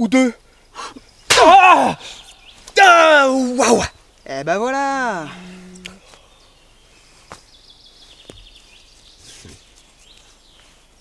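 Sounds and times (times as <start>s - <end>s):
bird chirps: 2.0s - 11.0s.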